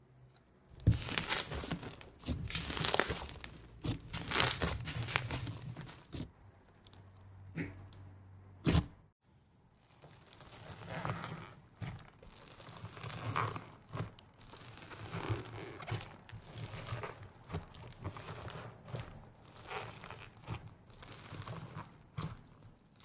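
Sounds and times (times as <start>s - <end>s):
slime crunching and crackling: 0.7s - 7.2s, 9.7s - 23.0s.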